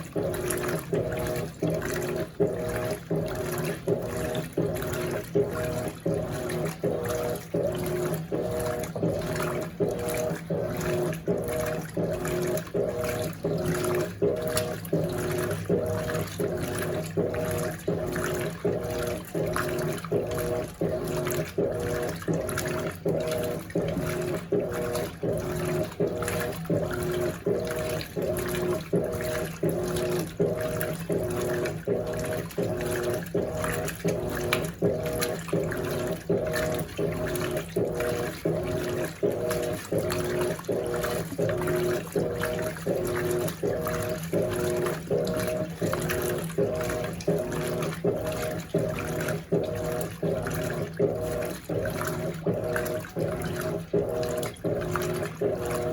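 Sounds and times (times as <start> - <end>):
washing machine motor humming: 0.0 - 55.9
water sloshing in tub: 0.0 - 55.9.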